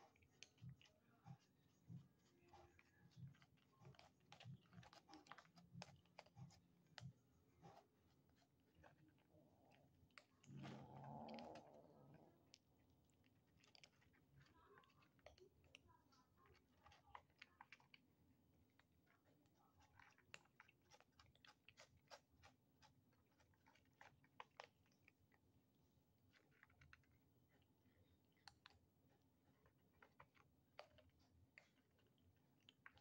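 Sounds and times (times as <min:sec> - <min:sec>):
kittens crunching dry food: 0:00.0 - 0:33.0.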